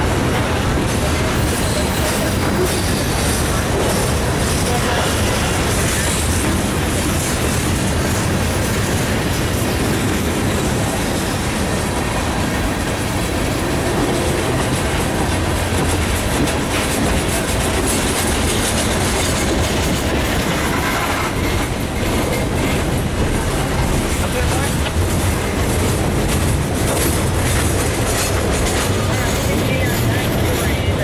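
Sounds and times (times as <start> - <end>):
train wheels clickety-clack on rails: 0.0 - 31.0.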